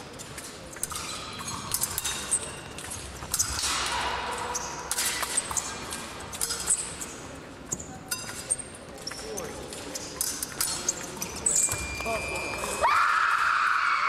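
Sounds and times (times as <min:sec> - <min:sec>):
fencing blades clicking and clashing: 0:00.0 - 0:13.5
general hall noise: 0:00.0 - 0:14.0.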